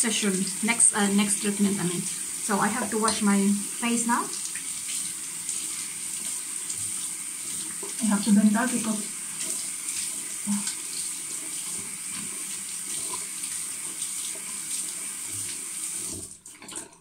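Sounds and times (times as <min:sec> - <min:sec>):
tap water running into sink: 0:00.0 - 0:17.0.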